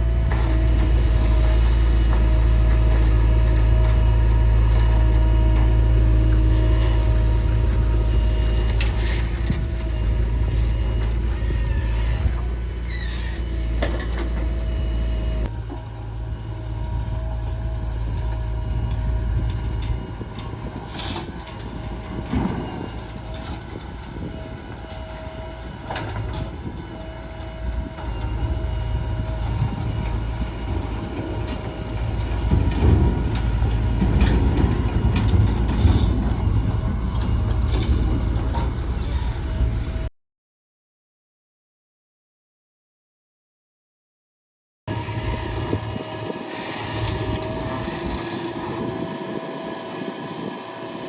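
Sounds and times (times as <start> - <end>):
diesel machinery engine rumble: 0.0 - 40.1, 44.9 - 51.0.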